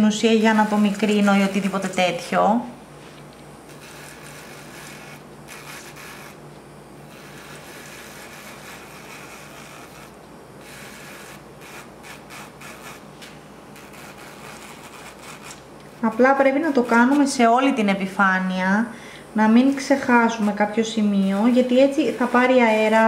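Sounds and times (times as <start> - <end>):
electric nail drill buffing nail: 0.0 - 2.6, 3.6 - 17.8, 19.4 - 23.0.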